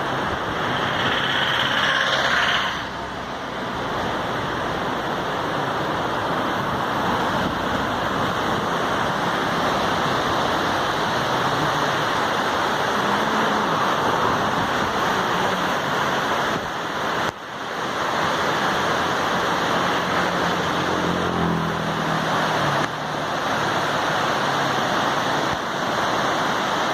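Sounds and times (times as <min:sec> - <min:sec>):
flooded river rushing: 0:00.0 - 0:26.9.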